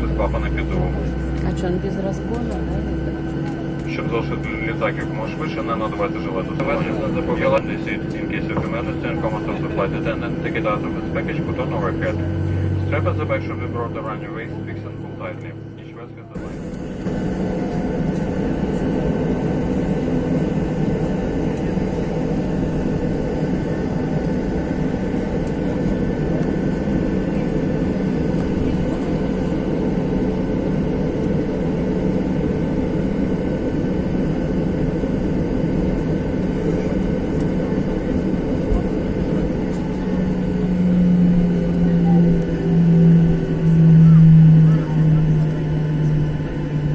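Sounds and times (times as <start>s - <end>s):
deep hum: 0.0s - 46.9s
jet engines rumbling in cabin: 0.0s - 46.9s.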